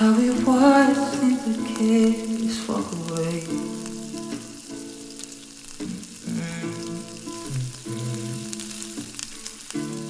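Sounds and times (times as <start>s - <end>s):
onion sizzling in oil: 0.0s - 10.0s
song with held chords: 0.0s - 10.0s.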